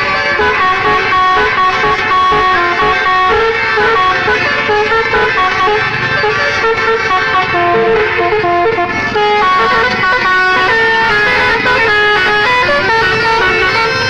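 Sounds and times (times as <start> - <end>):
bus horns playing melody: 0.0 - 14.0
low engine rumble: 0.0 - 14.0.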